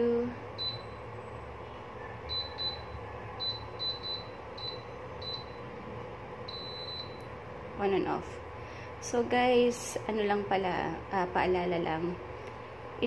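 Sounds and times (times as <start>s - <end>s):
cooker hum: 0.0s - 13.0s.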